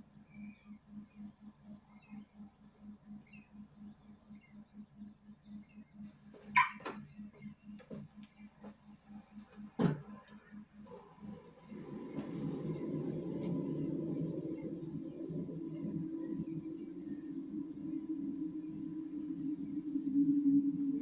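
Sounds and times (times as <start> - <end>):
low steady pulse: 0.0 - 21.0
small birds chirping: 3.1 - 21.0.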